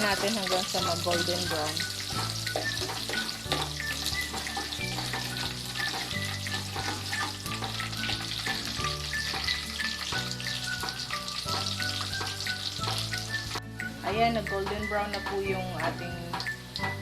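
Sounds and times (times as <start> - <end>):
garlic sizzling in hot oil: 0.0 - 17.0
soft background music: 0.0 - 17.0.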